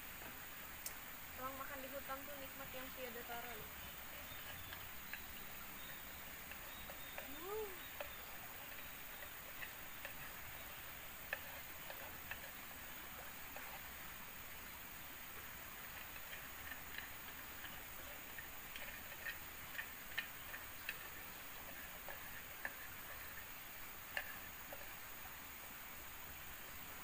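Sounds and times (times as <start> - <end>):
forest background hiss: 0.0 - 27.0.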